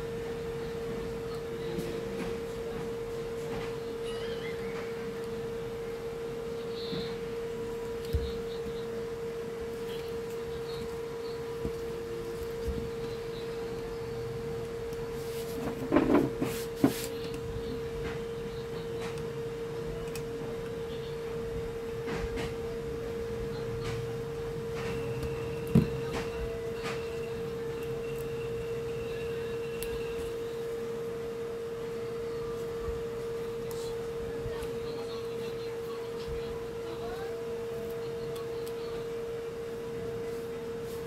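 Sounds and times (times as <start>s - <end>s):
steady pitched hum: 0.0s - 41.0s.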